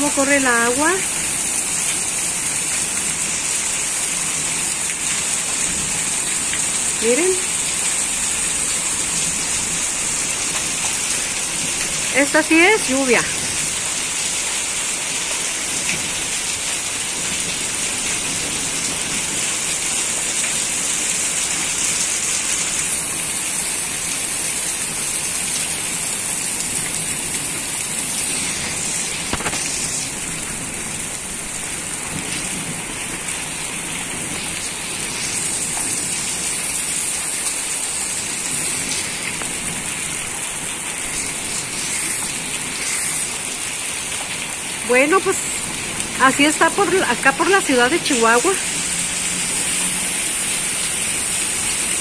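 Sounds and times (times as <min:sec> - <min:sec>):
heavy rain splashing into water: 0:00.0 - 0:52.0.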